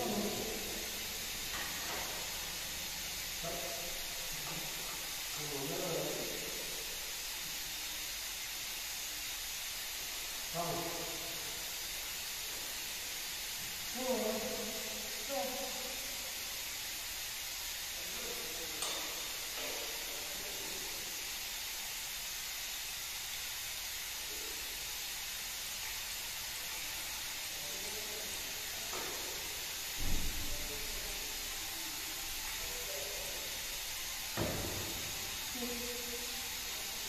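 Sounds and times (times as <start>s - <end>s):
workshop room tone hiss: 0.0s - 37.0s.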